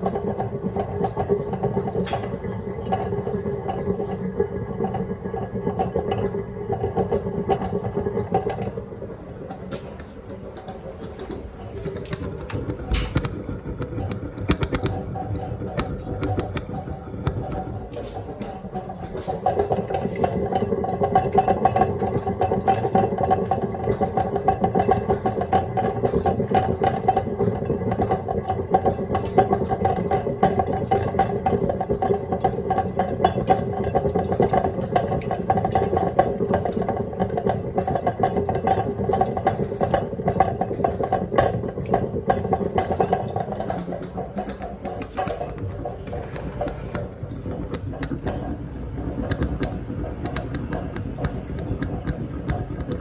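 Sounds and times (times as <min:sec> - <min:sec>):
sink drain rattling: 0:00.0 - 0:53.0.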